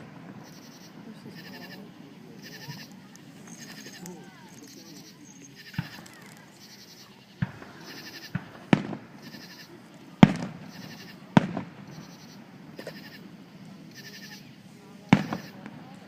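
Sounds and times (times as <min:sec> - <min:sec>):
fireworks booming: 0:00.0 - 0:16.0
fireworks crackling: 0:00.0 - 0:16.0.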